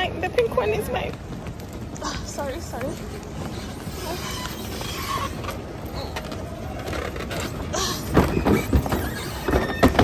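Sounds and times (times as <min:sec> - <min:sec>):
baggage carousel rumble: 0:00.0 - 0:10.0.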